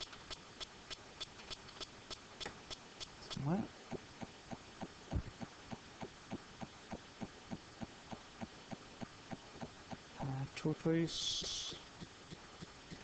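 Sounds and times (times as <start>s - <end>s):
faint regular ticking: 0.0s - 13.0s.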